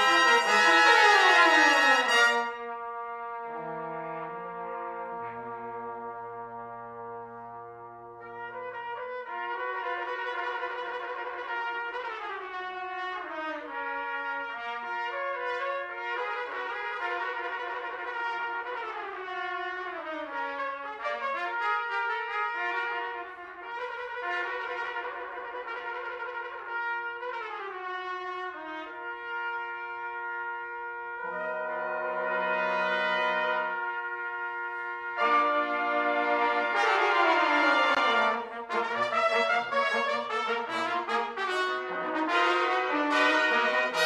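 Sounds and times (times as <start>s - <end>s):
brass ensemble playing chords: 0.0s - 44.0s.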